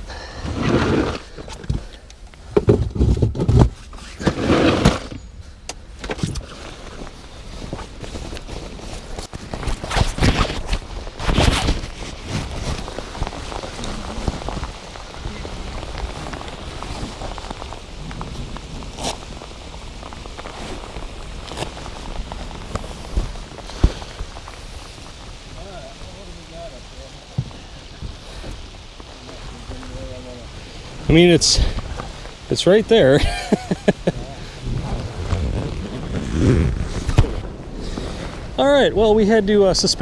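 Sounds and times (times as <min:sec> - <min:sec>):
jacket fabric rustling on microphone: 0:06.1 - 0:40.0.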